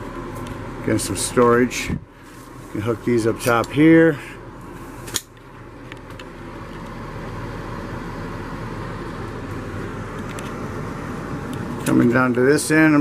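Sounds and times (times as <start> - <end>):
air conditioner fan humming: 0.0 - 13.0.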